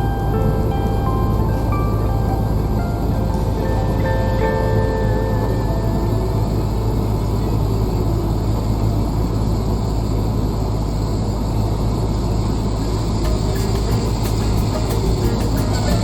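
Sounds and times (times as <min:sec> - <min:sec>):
vent cleaning machine rushing: 0:00.0 - 0:16.0.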